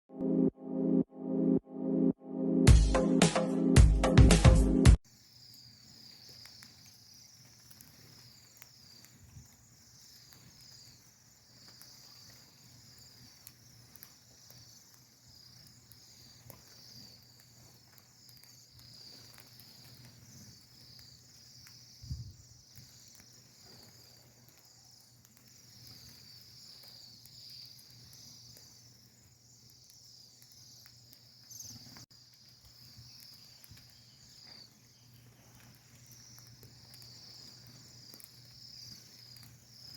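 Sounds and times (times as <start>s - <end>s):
flock of small birds chirping: 5.1s - 39.9s.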